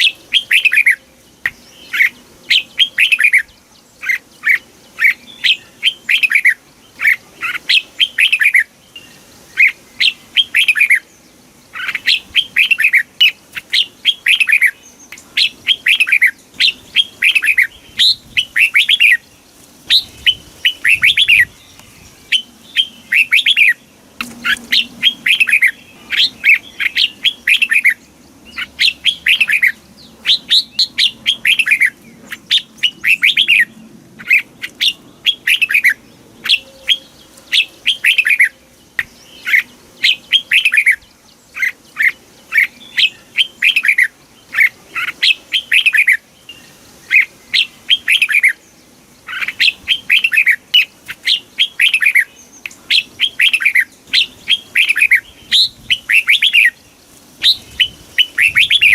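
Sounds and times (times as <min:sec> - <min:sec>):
bird singing whistled notes: 0:00.0 - 0:58.9.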